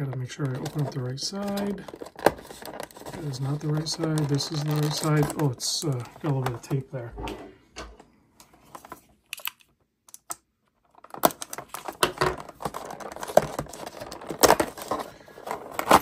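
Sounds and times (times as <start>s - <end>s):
plastic case clicking and creaking: 0.0s - 6.8s, 8.7s - 16.0s.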